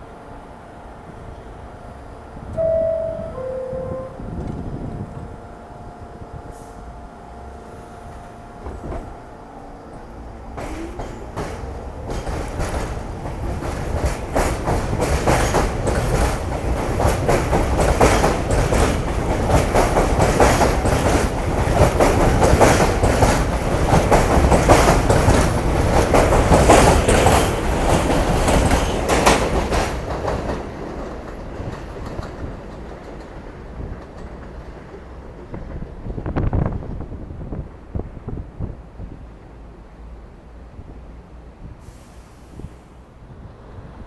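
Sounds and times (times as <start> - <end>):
subway train wheels clattering: 0.0 - 44.0
train rumble: 0.0 - 44.0.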